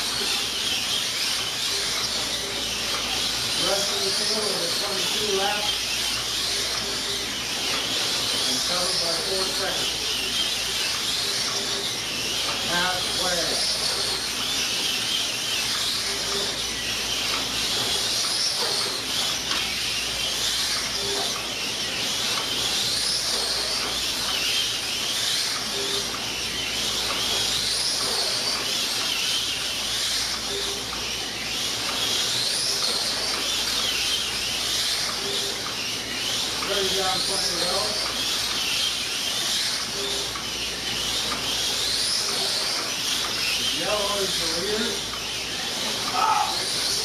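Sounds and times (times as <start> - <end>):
slot car motors whining: 0.0 - 47.0.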